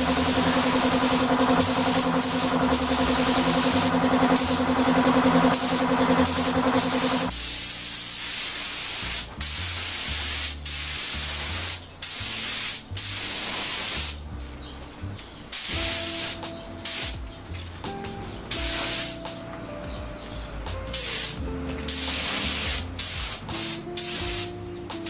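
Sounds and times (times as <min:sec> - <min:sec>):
spray gun hissing: 0:00.0 - 0:14.2, 0:15.5 - 0:17.2, 0:18.5 - 0:19.2, 0:20.9 - 0:24.6.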